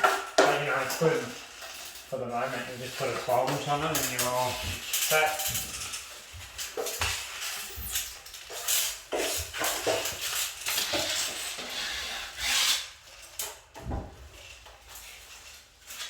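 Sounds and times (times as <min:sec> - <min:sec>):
drywall tool scraping compound: 0:00.0 - 0:16.0.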